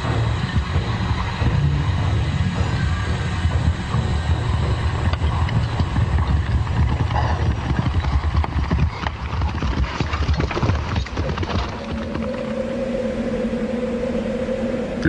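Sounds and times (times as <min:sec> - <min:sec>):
horses galloping on hard ground: 0:00.0 - 0:12.6.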